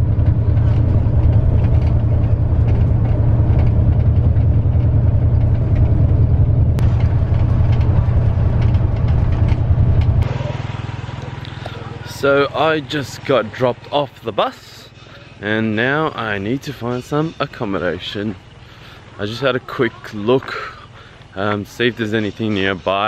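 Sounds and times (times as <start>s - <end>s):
bus engine rumbling: 0.0s - 23.0s.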